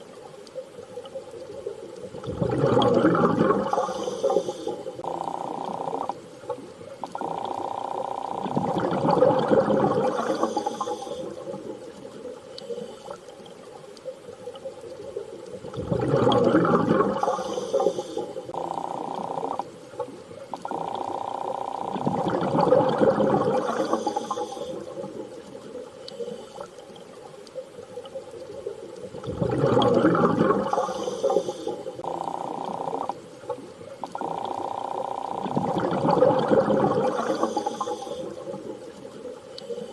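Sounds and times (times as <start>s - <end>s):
muffled underwater water surges: 0.0s - 39.9s
steady underwater hum: 0.0s - 39.9s.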